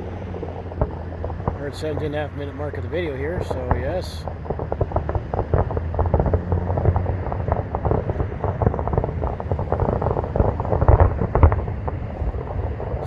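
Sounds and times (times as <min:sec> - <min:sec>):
distant fireworks booming and crackling: 0:00.0 - 0:13.0
heavy fireworks bangs: 0:00.0 - 0:13.0
wind buffeting microphone: 0:00.0 - 0:13.0.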